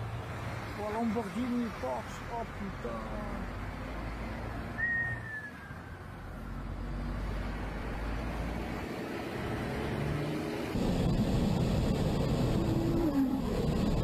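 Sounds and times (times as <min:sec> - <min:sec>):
motorway traffic road and engine noise: 0:00.0 - 0:14.0.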